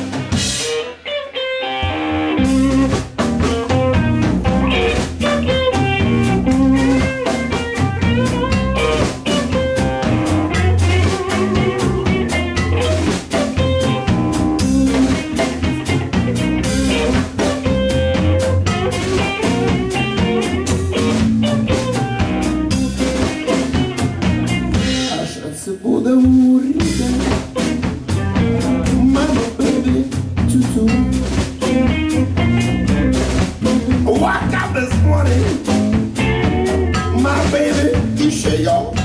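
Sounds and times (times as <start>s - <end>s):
bass guitar: 0.0s - 39.0s
drum kit: 0.0s - 39.0s
electric guitars: 0.0s - 39.0s.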